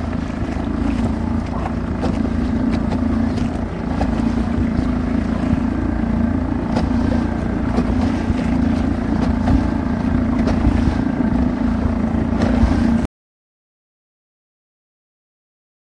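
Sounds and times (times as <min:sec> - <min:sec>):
wind buffeting microphone: 0:00.0 - 0:13.0
boat engine running: 0:00.0 - 0:13.1
water rushing past hull: 0:00.0 - 0:13.1.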